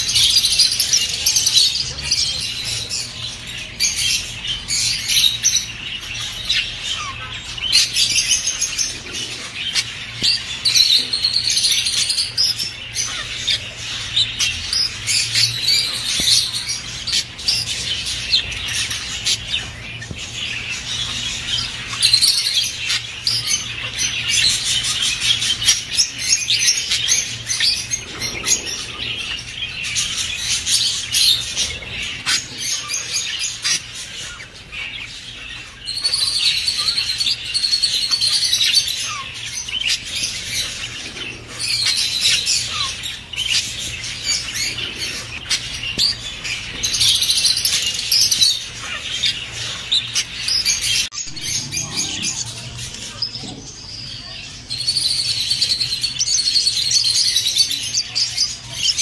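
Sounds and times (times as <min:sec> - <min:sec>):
budgerigars chattering and warbling: 0:00.0 - 0:59.0.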